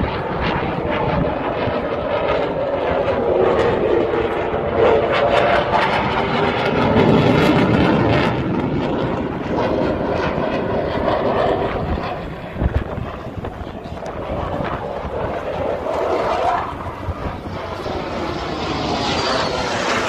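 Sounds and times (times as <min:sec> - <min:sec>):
jet engine passing overhead: 0:00.0 - 0:20.0.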